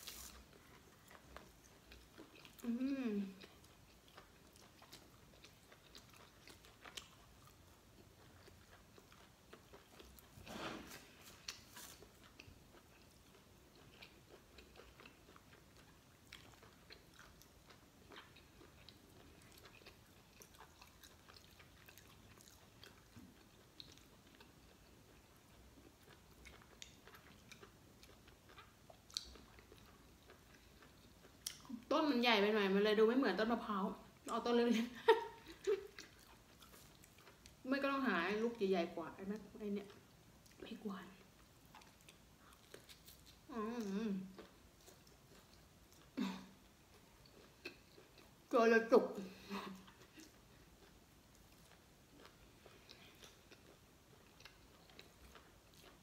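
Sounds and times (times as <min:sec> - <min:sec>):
person chewing: 0:00.0 - 0:31.9, 0:35.0 - 0:37.7, 0:39.3 - 0:48.5, 0:49.3 - 0:56.0.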